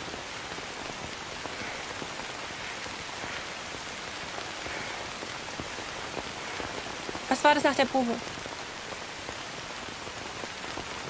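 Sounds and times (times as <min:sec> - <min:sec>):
raindrops ticking: 0:00.0 - 0:11.0
steady rain: 0:00.0 - 0:11.0.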